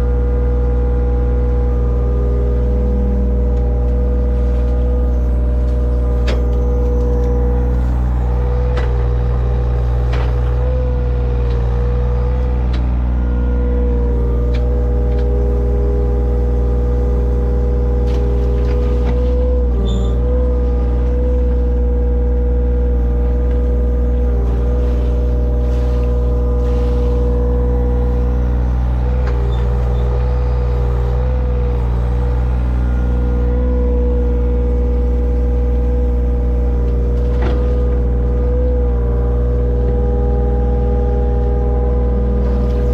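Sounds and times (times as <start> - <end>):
digging machine engine whining: 0.0 - 42.9.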